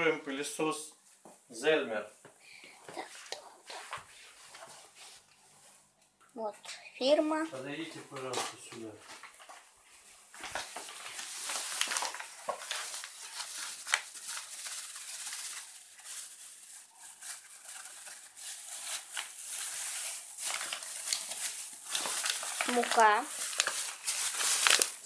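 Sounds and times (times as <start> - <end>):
rustling and pattering: 2.2 - 5.8, 6.4 - 25.0.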